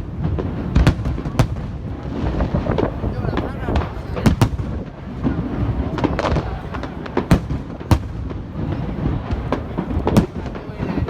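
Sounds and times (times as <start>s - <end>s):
fireworks bangs: 0.0s - 11.0s
rumble of distant explosions: 0.0s - 11.0s.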